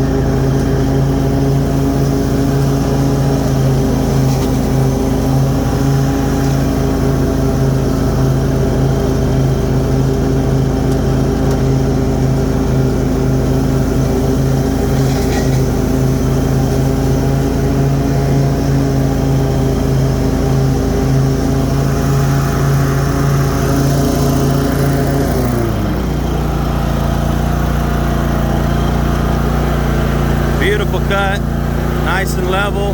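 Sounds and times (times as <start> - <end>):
lawn mower engine at high throttle: 0.0 - 32.9.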